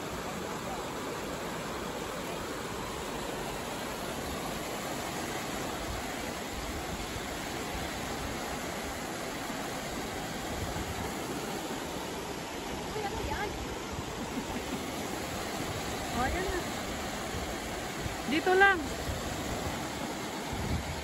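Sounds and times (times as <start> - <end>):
waves washing onto beach: 0.0 - 21.0.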